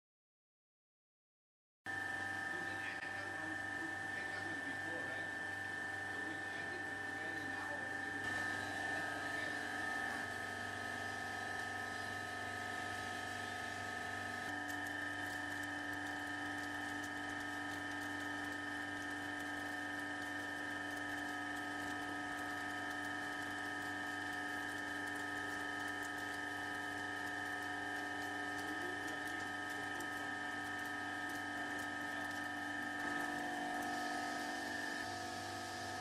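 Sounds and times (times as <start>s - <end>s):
ice machine humming and whining: 1.9s - 36.0s.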